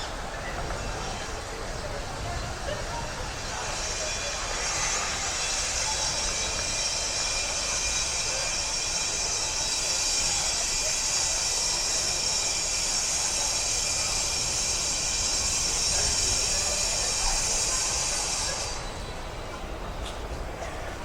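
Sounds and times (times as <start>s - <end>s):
tram passing: 0.0s - 21.0s.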